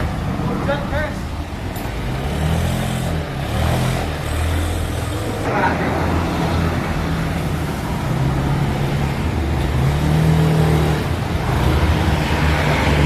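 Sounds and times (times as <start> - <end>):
scooter engine revving: 1.5 - 13.0.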